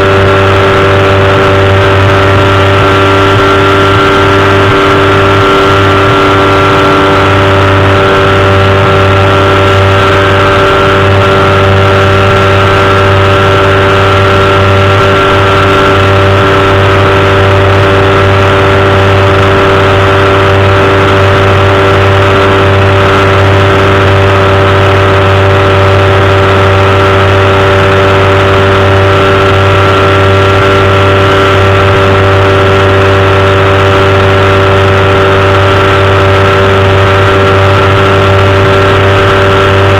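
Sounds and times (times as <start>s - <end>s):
engine and propeller droning: 0.0s - 39.9s.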